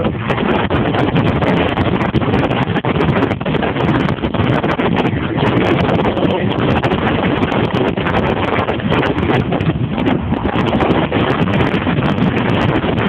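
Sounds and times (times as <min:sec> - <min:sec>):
car engine under hard driving: 0:00.0 - 0:13.0
wind buffeting microphone: 0:00.0 - 0:13.0.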